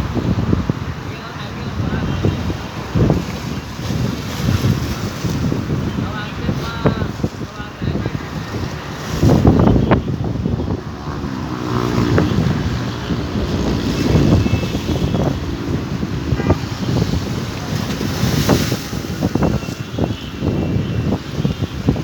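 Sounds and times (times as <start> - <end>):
sea waves washing ashore: 0.0 - 22.0
wind buffeting microphone: 0.0 - 22.0.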